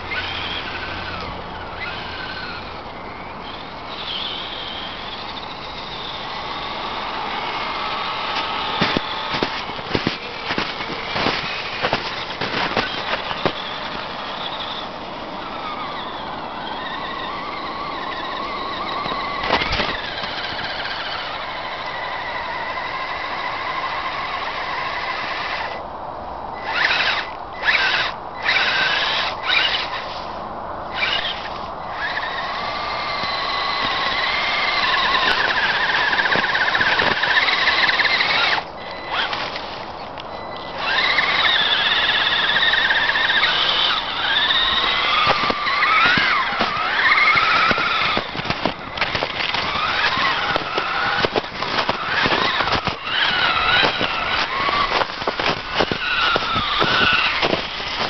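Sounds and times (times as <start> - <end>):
electric motor whining: 0.0 - 25.8, 26.6 - 58.0.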